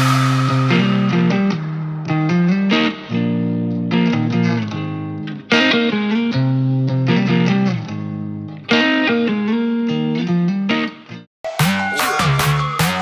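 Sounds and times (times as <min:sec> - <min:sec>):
plucked electric guitar riff: 0:00.0 - 0:13.0.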